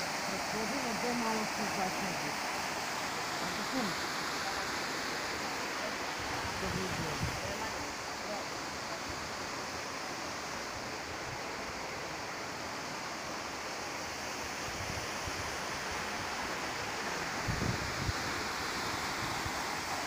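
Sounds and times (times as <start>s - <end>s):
waterfall rushing into pool: 0.0s - 20.0s.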